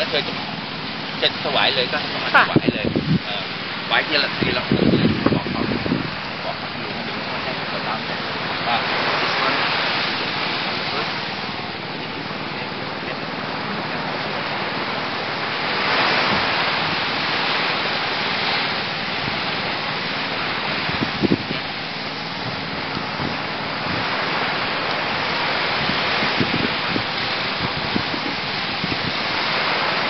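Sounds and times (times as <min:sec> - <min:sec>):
sea surf washing on beach: 0:00.0 - 0:30.0.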